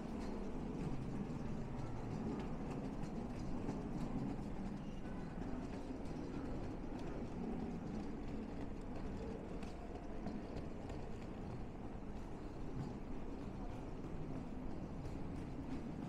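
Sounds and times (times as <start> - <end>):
faint footsteps: 0.0 - 16.0
low hall rumble: 0.0 - 16.0.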